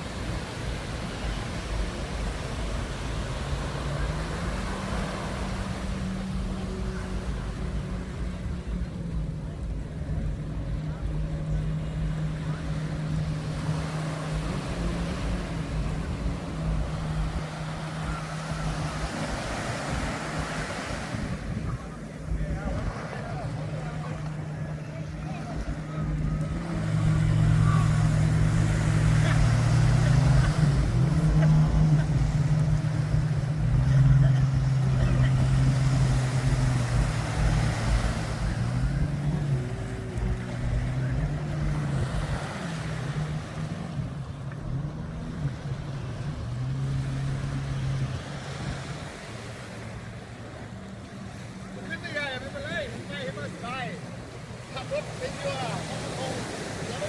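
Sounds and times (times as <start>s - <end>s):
broad rushing noise: 0.0s - 57.0s
low engine hum: 0.0s - 57.0s
street and beach noise: 0.0s - 57.0s.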